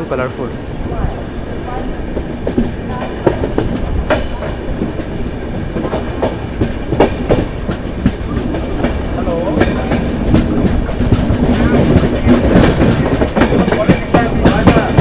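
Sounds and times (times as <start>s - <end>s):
train wheels rumbling on track: 0.0s - 15.0s
wheels clacking over rail joints: 0.0s - 15.0s.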